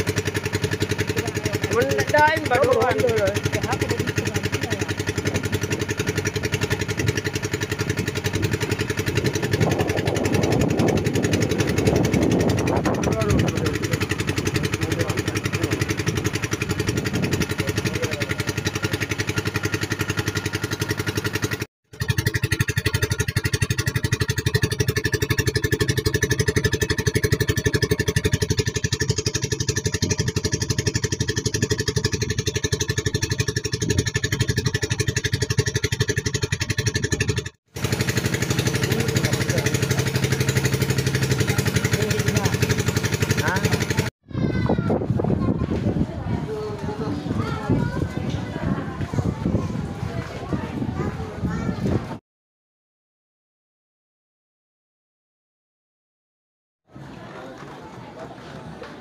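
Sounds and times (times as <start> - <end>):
small boat engine running: 0.0 - 52.2.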